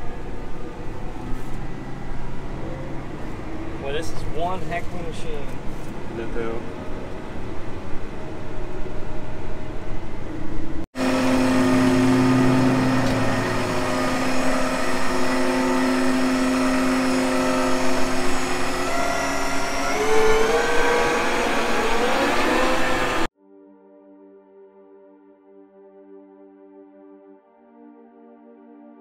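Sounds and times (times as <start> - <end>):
tractor diesel engine: 0.0 - 23.3.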